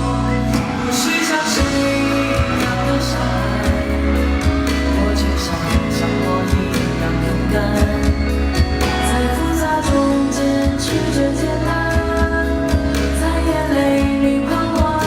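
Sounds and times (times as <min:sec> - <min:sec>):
pop song with sung vocals: 0:00.0 - 0:15.0.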